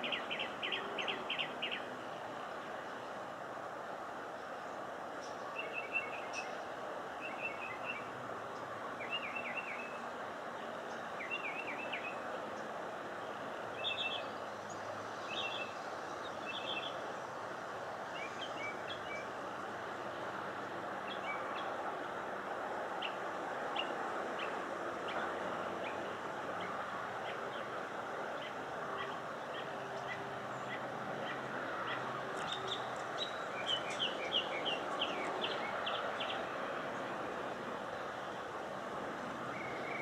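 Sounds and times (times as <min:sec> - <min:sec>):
songbird chirping: 0:00.0 - 0:03.1, 0:05.2 - 0:21.8, 0:22.8 - 0:37.2, 0:39.5 - 0:40.0
steady background noise: 0:00.0 - 0:40.0.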